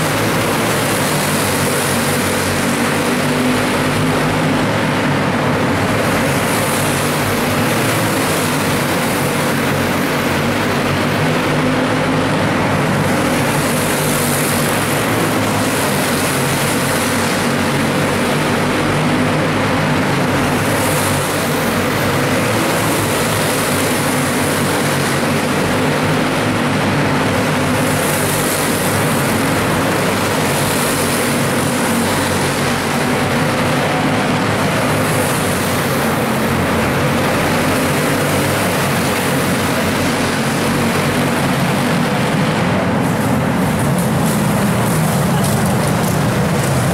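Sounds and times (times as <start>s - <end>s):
racing kart engines droning: 0.0s - 46.9s.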